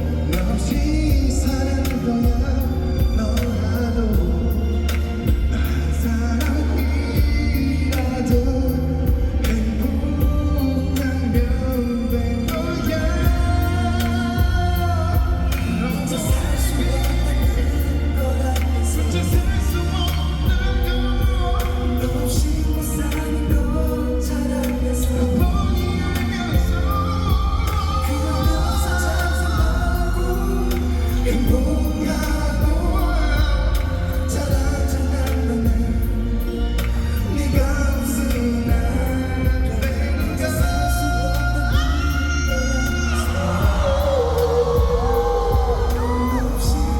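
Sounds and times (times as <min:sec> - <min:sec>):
backing track with bass and drums: 0:00.0 - 0:46.9
man singing pop song: 0:00.0 - 0:46.9.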